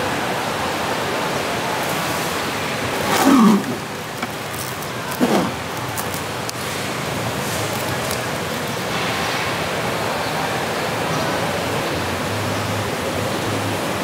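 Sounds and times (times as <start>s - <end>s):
market hall background noise: 0.0s - 14.0s.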